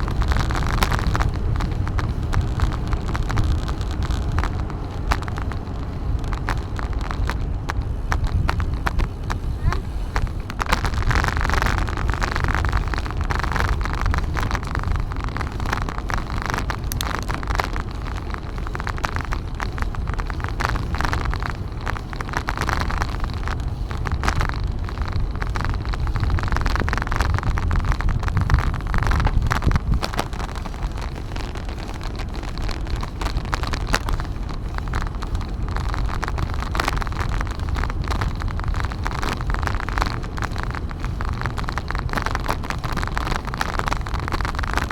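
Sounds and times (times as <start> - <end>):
road and traffic noise: 0.0 - 44.9
wind buffeting microphone: 0.0 - 44.9.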